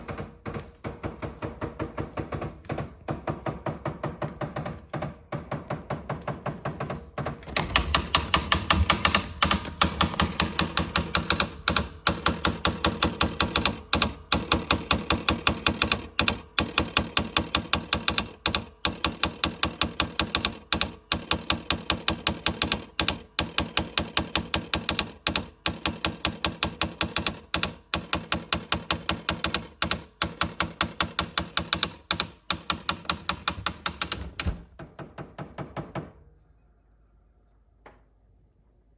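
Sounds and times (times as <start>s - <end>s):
refrigerator rapid clicking: 0.0s - 34.9s.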